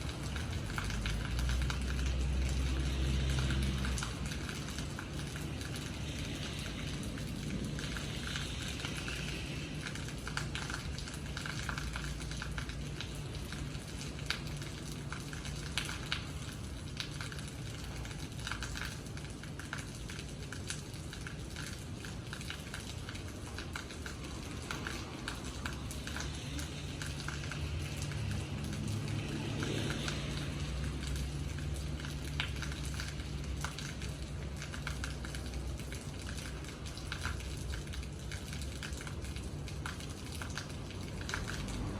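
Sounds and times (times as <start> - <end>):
rain drops ticking: 0.0 - 41.9
rain hiss: 0.0 - 41.9.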